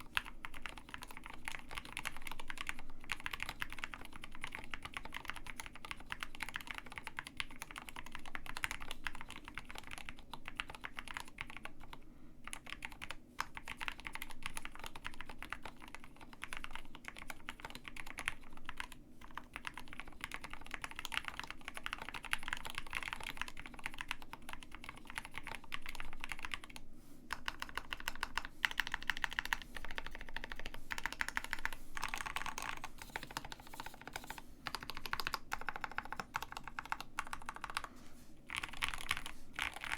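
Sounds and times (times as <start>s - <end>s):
mechanical keyboard typing: 0.0s - 37.9s, 38.5s - 39.9s.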